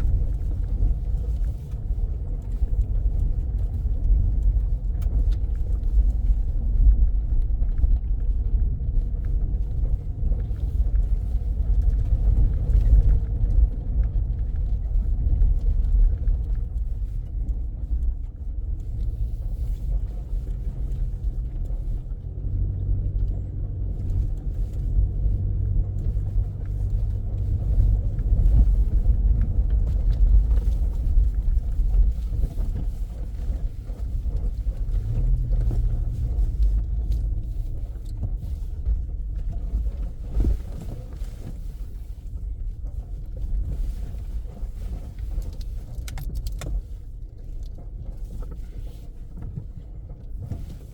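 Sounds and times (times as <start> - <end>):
vehicle engine and road rumble: 0.0 - 50.9.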